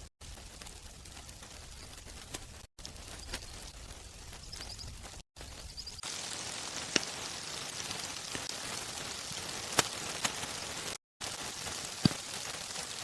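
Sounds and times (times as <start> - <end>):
wood fire crackling: 0.0 - 13.0
fire pops: 0.2 - 13.0.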